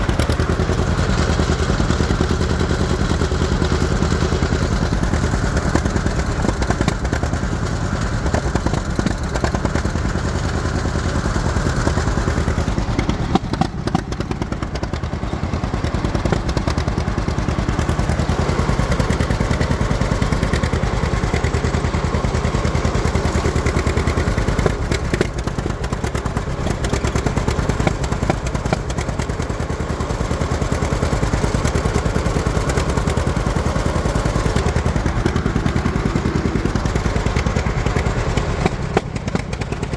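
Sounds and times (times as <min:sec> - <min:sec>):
tractor engine popping exhaust: 0:00.0 - 0:39.9.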